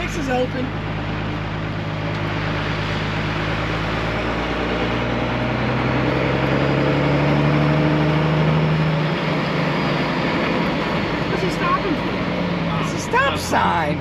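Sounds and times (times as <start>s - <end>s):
car engine running: 0.0s - 14.0s
road noise inside car: 0.0s - 14.0s.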